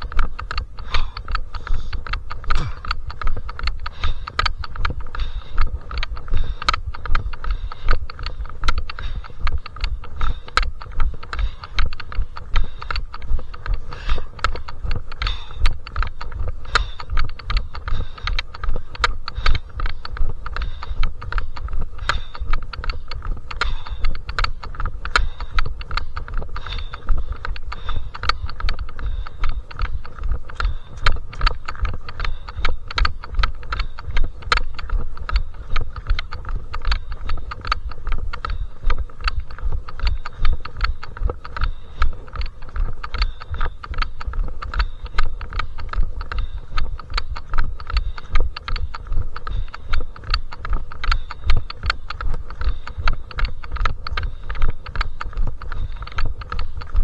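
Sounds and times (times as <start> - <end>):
running footsteps: 0.0 - 57.0.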